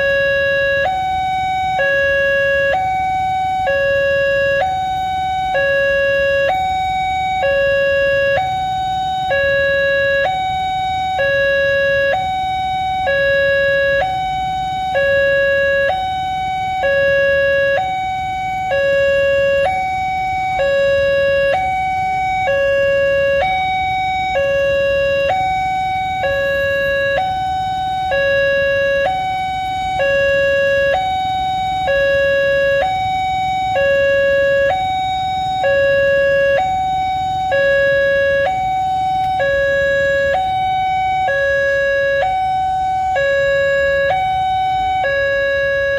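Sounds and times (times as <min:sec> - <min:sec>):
level crossing two-tone alarm: 0:00.0 - 0:45.9.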